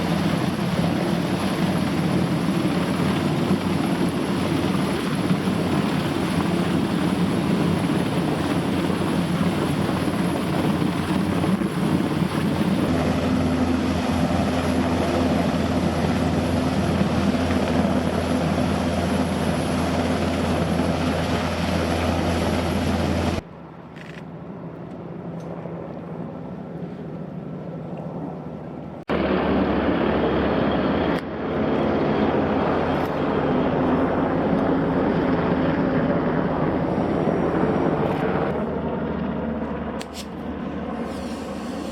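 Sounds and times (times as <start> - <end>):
helicopter hovering: 0.0 - 41.9.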